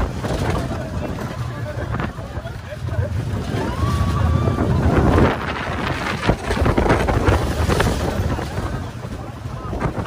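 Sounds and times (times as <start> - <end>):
roller coaster train rumbling on track: 0.0 - 10.0
wind rushing over microphone: 0.0 - 10.0.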